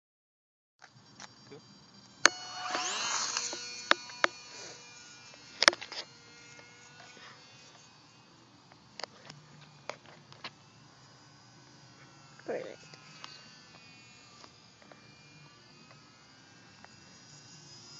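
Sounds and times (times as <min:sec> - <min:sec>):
model plane motor whining: 0:00.8 - 0:17.9.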